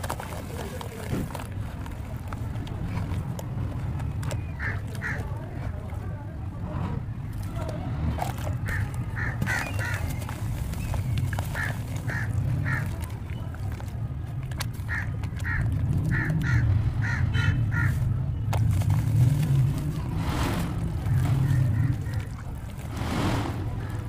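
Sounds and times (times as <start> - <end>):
hands squelching wet cement: 0.0 - 24.0.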